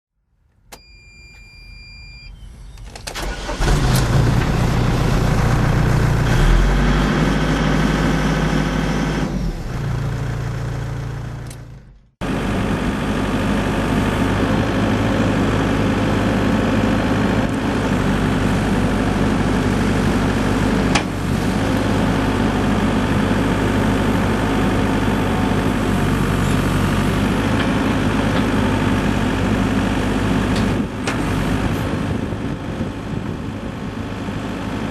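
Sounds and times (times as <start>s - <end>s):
diesel engine starting and running: 0.5s - 34.9s.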